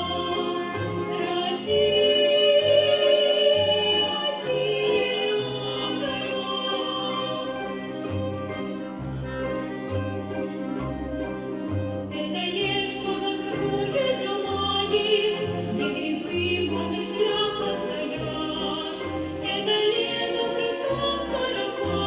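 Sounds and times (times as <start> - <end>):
voices singing: 0.0 - 10.8, 11.4 - 22.0
folk instrument orchestra: 0.0 - 22.0.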